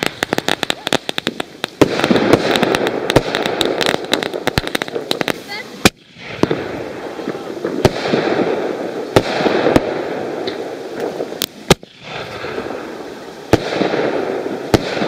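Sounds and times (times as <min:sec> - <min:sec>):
crackling hiss of fireworks: 0:00.0 - 0:15.0
firework bangs: 0:00.0 - 0:15.0.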